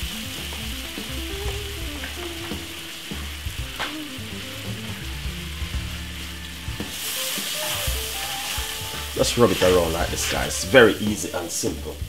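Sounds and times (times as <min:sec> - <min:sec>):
butter sizzling in a frying pan: 0:00.0 - 0:12.0.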